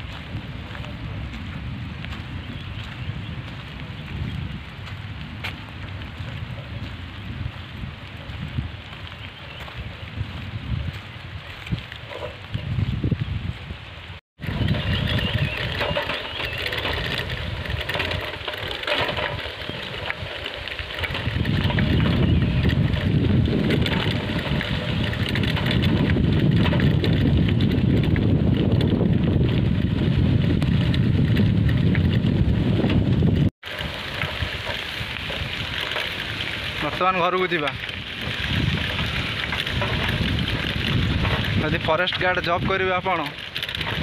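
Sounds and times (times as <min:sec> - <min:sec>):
wind rumbling on microphone: 0:00.0 - 0:44.0.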